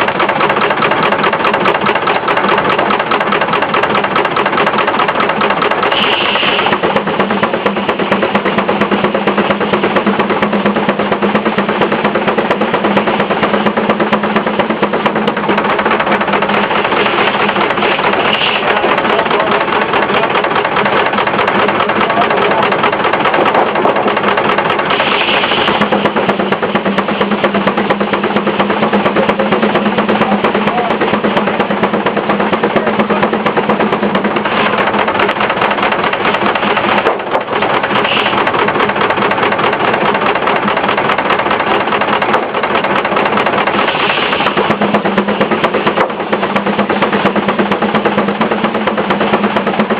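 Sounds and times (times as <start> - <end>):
sawmill machinery hum: 0.0 - 49.9
steam engine exhaust beating: 0.0 - 49.9.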